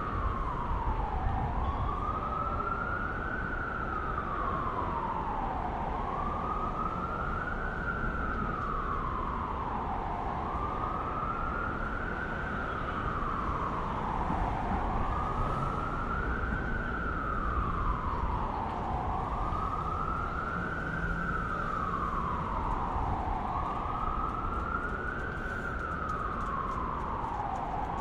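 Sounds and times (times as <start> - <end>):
emergency siren wailing: 0.0 - 28.0
street traffic rumble: 0.0 - 28.0.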